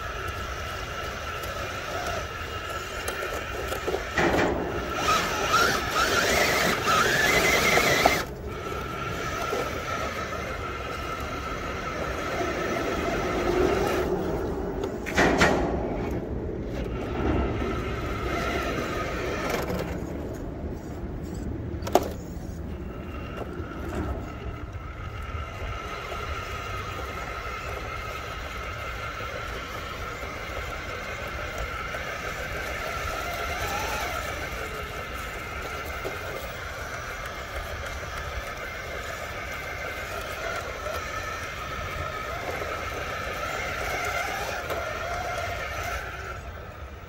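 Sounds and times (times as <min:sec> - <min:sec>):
electric motor and gears whining: 0:00.0 - 0:47.0.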